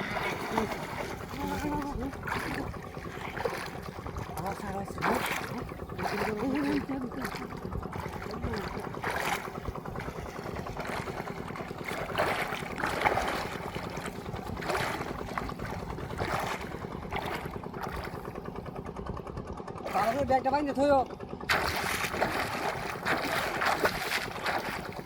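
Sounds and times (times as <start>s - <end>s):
rushing water or wind: 0.0s - 18.6s, 19.9s - 25.0s
boat motor running: 0.0s - 25.0s.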